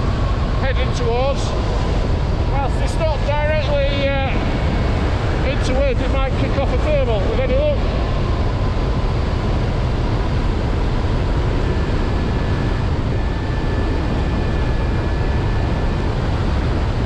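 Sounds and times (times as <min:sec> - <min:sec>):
airflow rushing over microphone: 0:00.0 - 0:17.0.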